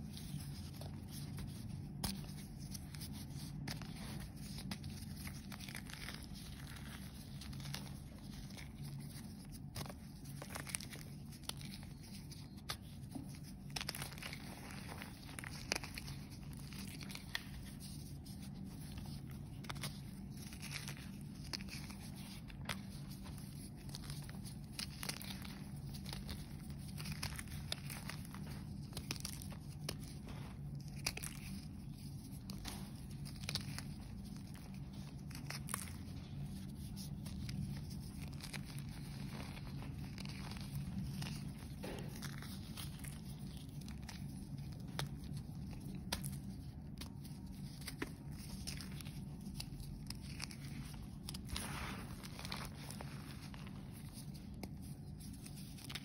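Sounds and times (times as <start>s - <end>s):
chalk crunching and crackling: 0.0s - 56.0s
steady low hum: 0.0s - 56.0s.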